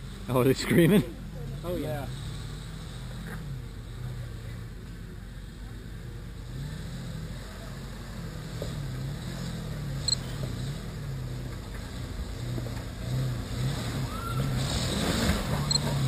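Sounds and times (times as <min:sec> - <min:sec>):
car engine pulling under load: 0:00.0 - 0:16.0.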